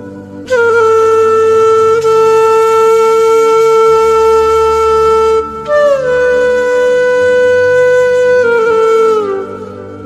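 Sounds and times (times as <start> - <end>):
slow wind instrument melody: 0.0 - 10.0.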